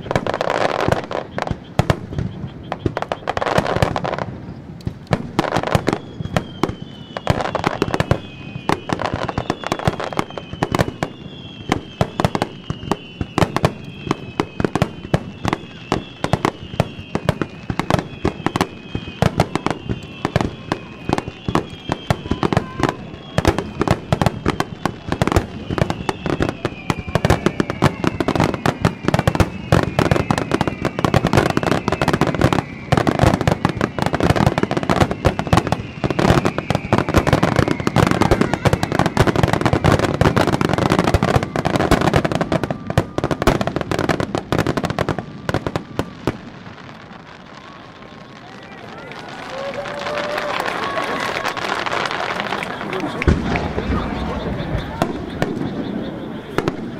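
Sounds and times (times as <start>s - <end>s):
fireworks bursting and crackling: 0.0s - 56.9s
fireworks whistling down: 0.0s - 56.9s.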